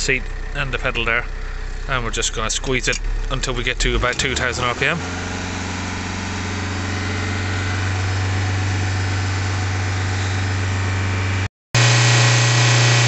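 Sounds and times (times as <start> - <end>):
diesel car engine at raised revs: 0.0 - 13.0.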